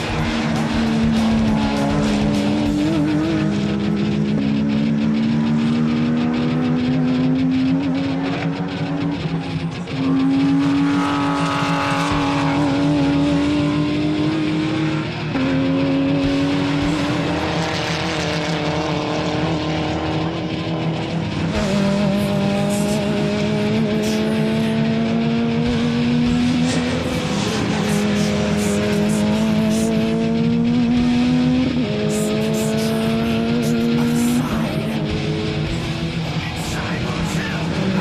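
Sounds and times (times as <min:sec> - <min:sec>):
race car engine revving high: 0:00.0 - 0:38.0.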